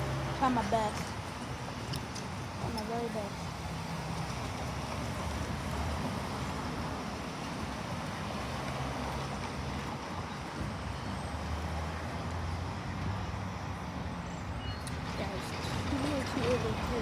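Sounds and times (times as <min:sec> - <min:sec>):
passenger train rolling past: 0:00.0 - 0:17.0.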